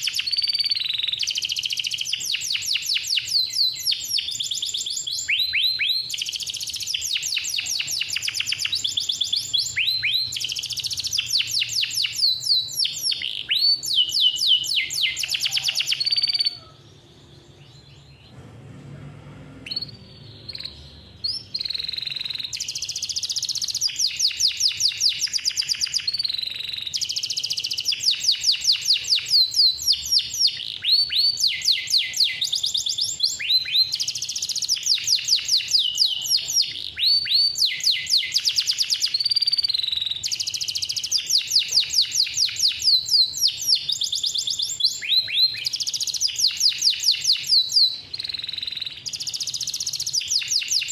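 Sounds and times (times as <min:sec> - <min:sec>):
canary singing: 0:00.0 - 0:18.3, 0:19.6 - 0:50.9.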